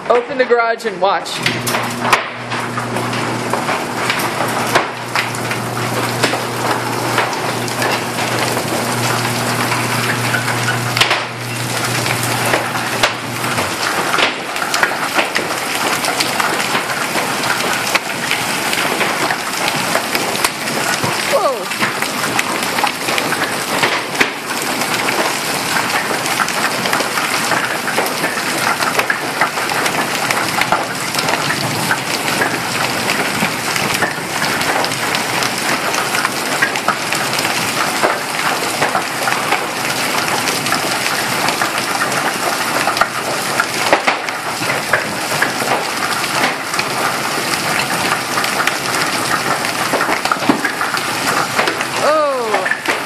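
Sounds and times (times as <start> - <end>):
hailstones and rain clattering: 0.0 - 53.0
sharp hits of large hailstones: 1.7 - 53.0.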